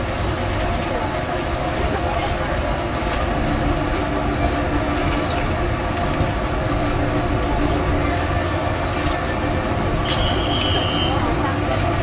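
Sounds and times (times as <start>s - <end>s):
continuous low rumble: 0.0s - 12.0s.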